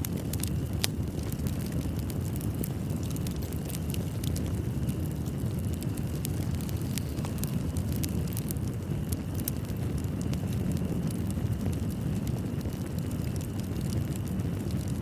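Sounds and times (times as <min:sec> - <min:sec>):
burning wood crackling and popping: 0:00.0 - 0:15.0
fire burning low rumble: 0:00.0 - 0:15.0.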